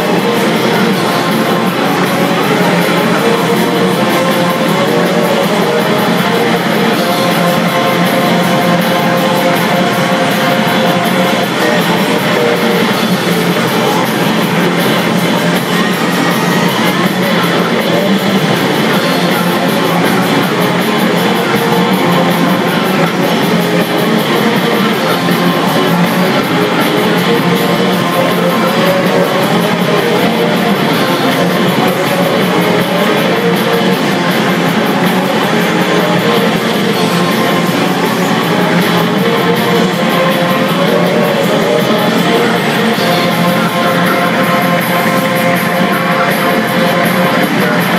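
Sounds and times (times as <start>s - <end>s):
rock music with electric guitar: 0.0s - 47.9s.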